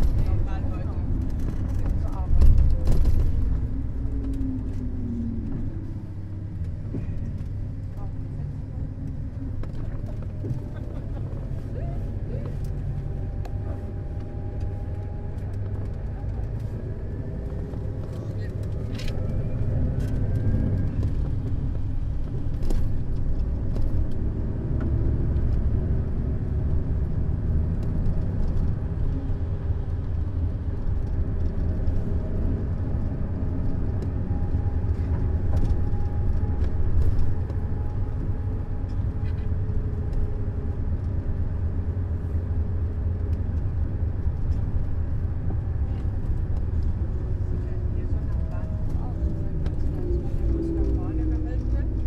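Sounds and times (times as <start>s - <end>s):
coach engine and road rumble: 0.0s - 52.0s.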